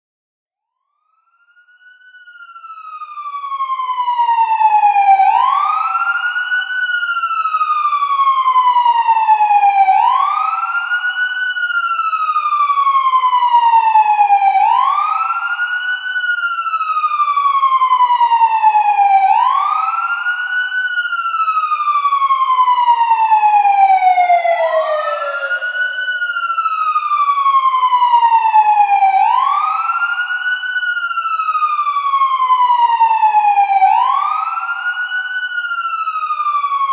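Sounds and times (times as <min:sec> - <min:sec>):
police siren wailing: 0:00.9 - 0:36.9.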